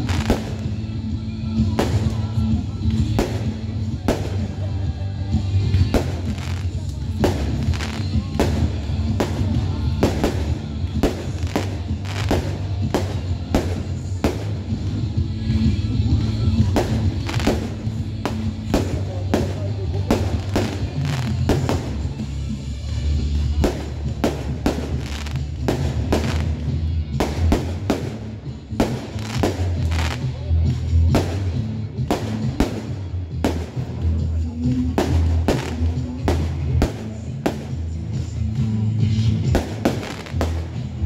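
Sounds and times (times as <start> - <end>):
fireworks bursting: 0.0 - 41.0
music with low bass: 0.0 - 41.0.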